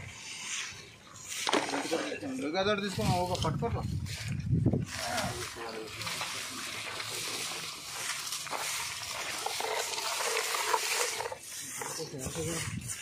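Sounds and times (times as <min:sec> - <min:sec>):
twig brooms sweeping dirt: 0:00.0 - 0:13.0.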